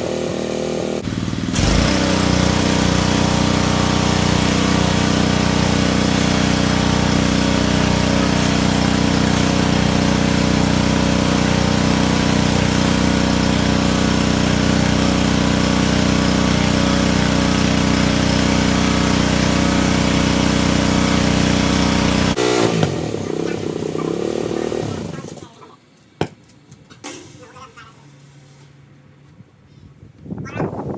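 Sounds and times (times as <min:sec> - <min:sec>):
small gas engine running: 0:00.0 - 0:25.6.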